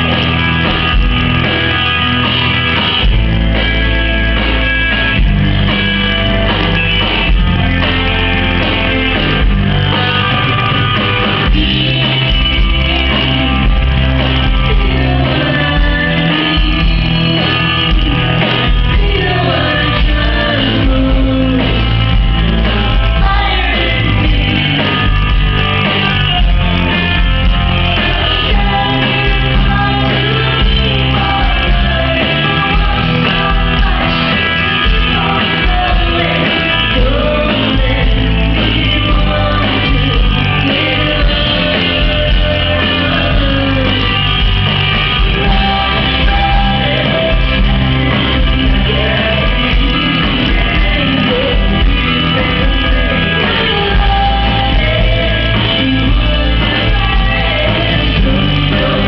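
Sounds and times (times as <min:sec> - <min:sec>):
rock band with electric guitar: 0:00.0 - 0:59.0
woman singing into a microphone: 0:11.4 - 0:59.0.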